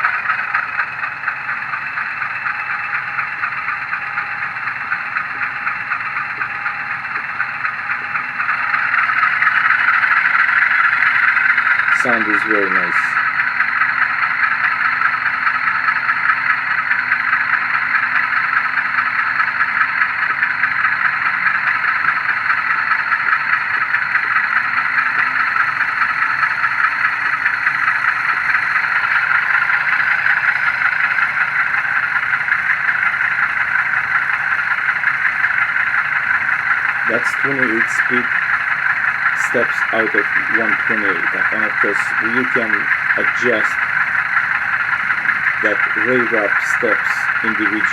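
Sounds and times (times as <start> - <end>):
model train diesel engine sound: 0.0 - 47.9.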